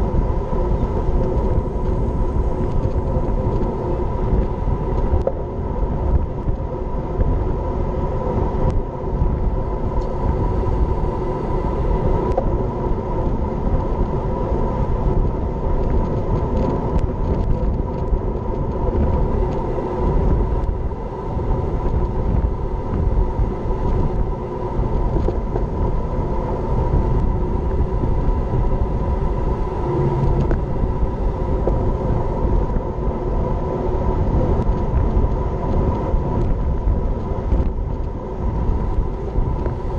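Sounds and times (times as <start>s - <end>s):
bike tyres humming on asphalt: 0.0s - 39.9s
wind on microphone: 0.0s - 39.9s.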